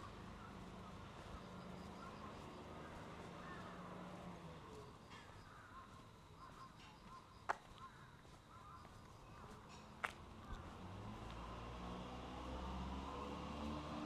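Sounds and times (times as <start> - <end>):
faint crows cawing: 0.0 - 11.8.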